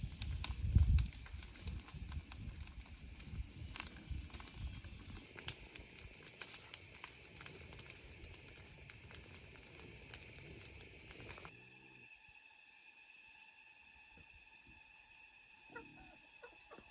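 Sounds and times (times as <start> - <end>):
insects trilling: 0.0 - 16.9.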